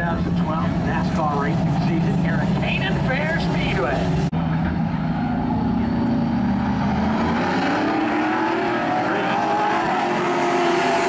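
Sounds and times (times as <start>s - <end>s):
race car engines running hard: 0.0s - 11.0s.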